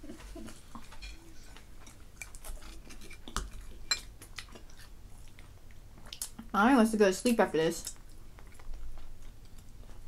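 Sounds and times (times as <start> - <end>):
close-up chewing: 0.0 - 6.6, 7.2 - 10.0.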